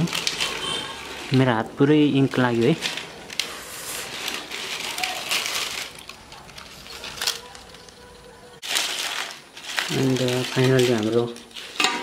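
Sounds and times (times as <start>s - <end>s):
scissors cutting plastic: 0.0s - 1.4s, 2.4s - 12.0s
plastic bottle crinkling: 0.0s - 12.0s.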